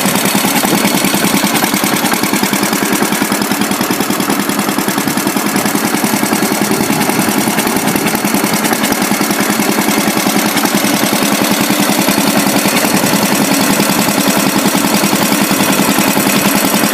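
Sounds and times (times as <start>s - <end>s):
old engine running: 0.0s - 16.9s
rock crusher mechanical beat: 0.0s - 16.9s.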